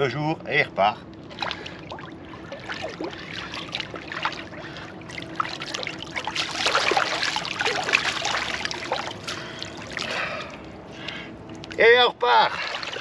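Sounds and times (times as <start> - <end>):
water splashing and sloshing: 1.0 - 13.0.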